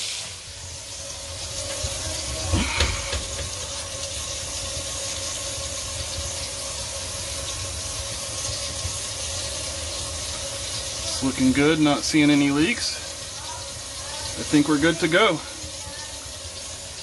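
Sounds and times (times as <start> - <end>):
water running down sink drain: 0.0 - 17.0.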